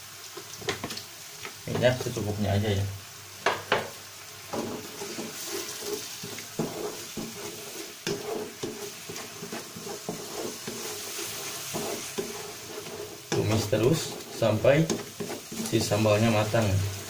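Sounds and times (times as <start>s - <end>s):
paste sizzling in hot oil: 0.0s - 17.0s
wooden spatula scraping a wok: 0.6s - 2.6s, 4.4s - 17.0s.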